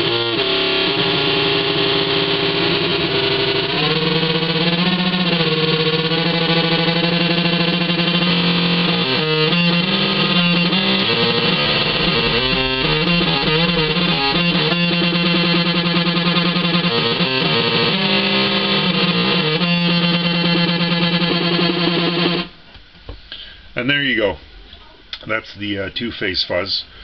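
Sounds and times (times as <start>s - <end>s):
distorted electric guitar: 0.0s - 22.6s.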